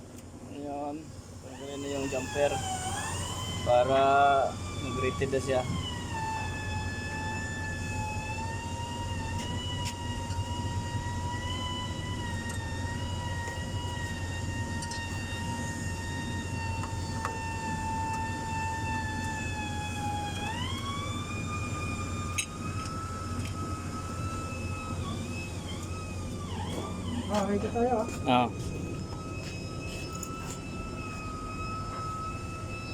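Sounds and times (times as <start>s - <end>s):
high whine: 0.0s - 32.9s.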